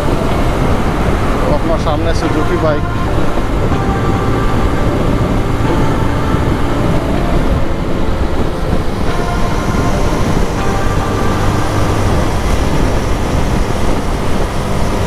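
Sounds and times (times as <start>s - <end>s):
road noise: 0.0s - 15.0s
wind rush on microphone: 0.0s - 15.0s.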